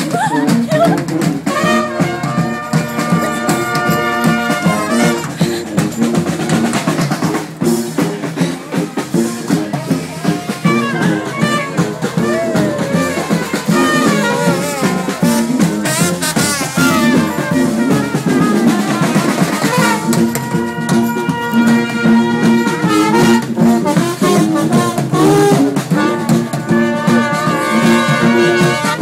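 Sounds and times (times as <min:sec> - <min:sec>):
brass band playing jazz: 0:00.0 - 0:29.0.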